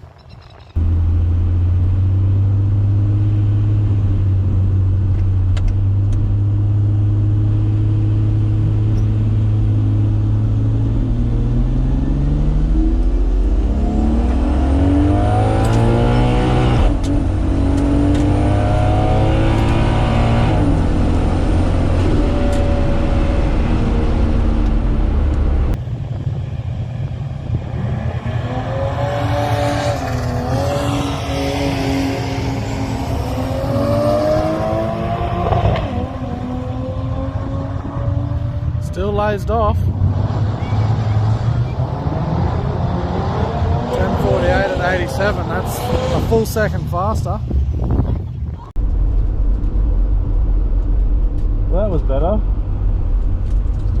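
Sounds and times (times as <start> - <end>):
race car engine revving: 0.8 - 25.8, 27.4 - 48.0.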